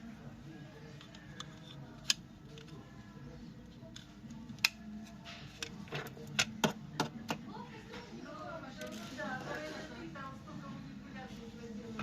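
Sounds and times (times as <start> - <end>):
low background murmur: 0.0 - 12.0.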